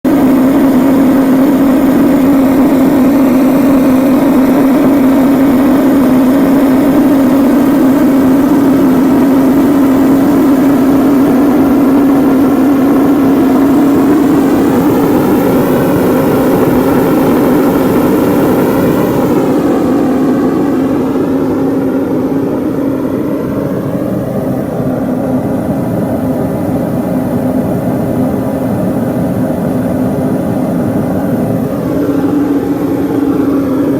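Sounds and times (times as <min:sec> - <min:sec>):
oil burner roaring with low hum: 0:00.0 - 0:33.9.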